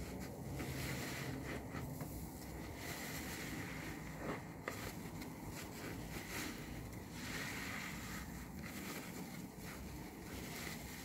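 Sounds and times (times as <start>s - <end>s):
sponge squelching in soap lather: 0.0s - 11.0s.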